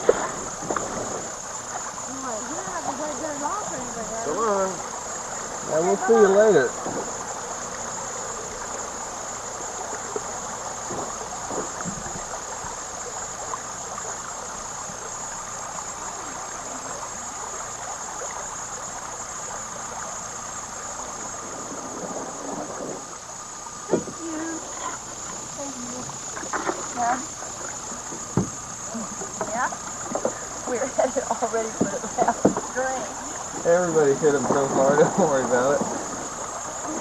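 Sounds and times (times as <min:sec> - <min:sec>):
flowing river water: 0:00.0 - 0:37.0.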